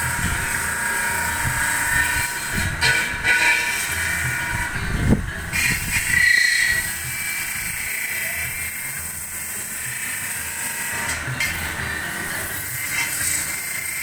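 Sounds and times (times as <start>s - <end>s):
high metal screech: 0.0s - 14.0s
lathe tool scraping metal: 0.0s - 14.0s.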